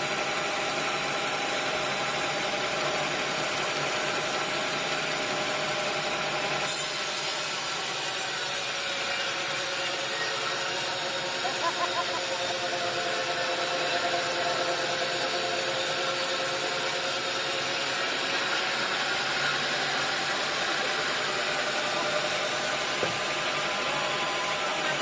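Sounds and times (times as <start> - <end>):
sawmill machinery humming: 0.0 - 25.0.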